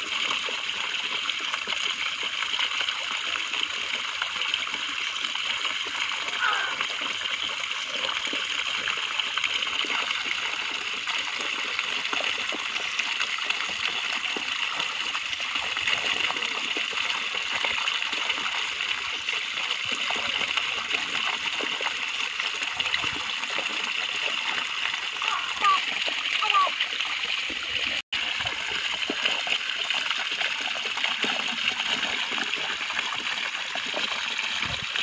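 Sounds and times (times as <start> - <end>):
water splashing trickle: 0.0 - 35.0.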